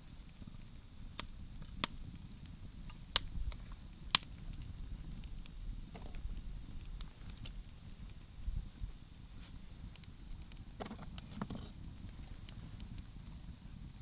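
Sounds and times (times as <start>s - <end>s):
bonfire crackling: 0.0s - 14.0s
low fire rumble: 0.0s - 14.0s
sharp pops of fire: 0.0s - 14.0s.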